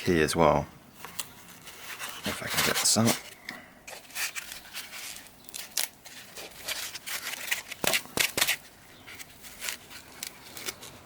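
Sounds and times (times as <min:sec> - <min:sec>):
packaging rustling and scraping: 0:01.0 - 0:11.0.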